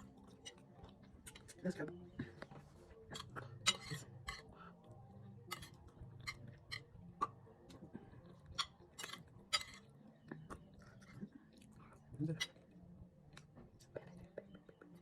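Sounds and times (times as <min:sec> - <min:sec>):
person eating with clicks and smacks: 0:00.0 - 0:15.0.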